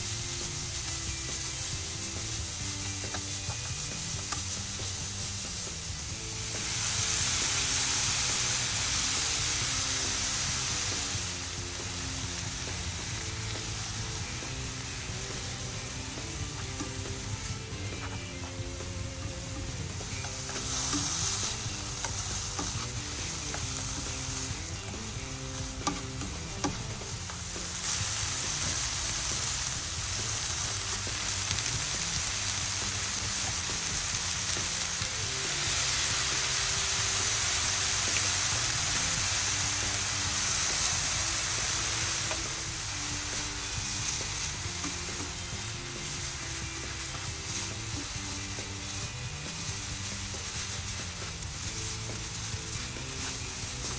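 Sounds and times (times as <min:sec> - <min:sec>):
food sizzling in frying pan: 0:00.0 - 0:53.9
tongs tossing food in pan: 0:00.0 - 0:53.9.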